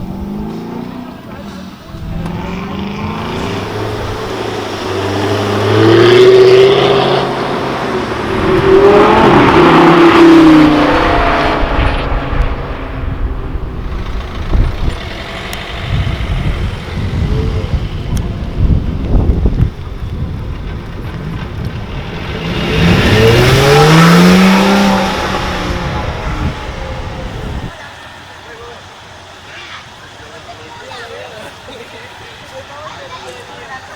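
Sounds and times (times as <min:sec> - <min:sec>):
sports car engine accelerating: 0:00.0 - 0:27.8.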